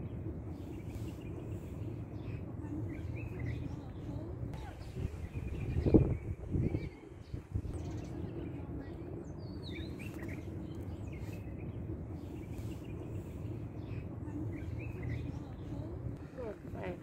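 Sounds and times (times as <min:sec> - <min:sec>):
low background rumble: 0:00.0 - 0:17.0
small birds chirping: 0:00.0 - 0:17.0.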